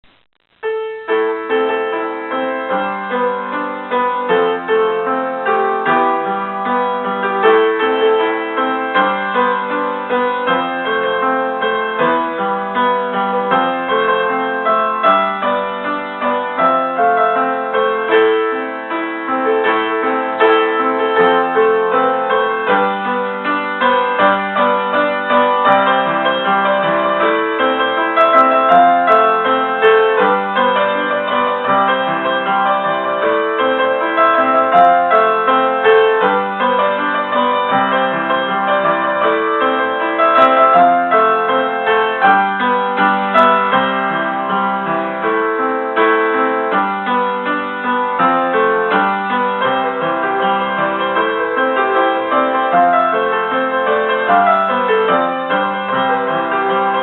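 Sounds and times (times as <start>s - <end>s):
keyboard playing pop melody: 0.0s - 57.0s.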